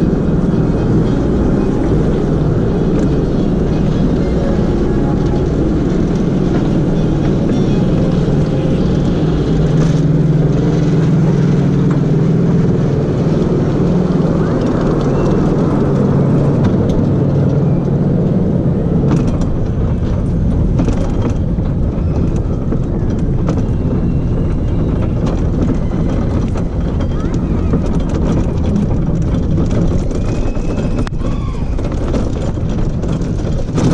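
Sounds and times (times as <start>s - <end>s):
roller coaster chain lift rattling: 0.0s - 33.9s
roller coaster clacks: 0.0s - 33.9s
roller coaster wheels rumbling: 0.0s - 33.9s.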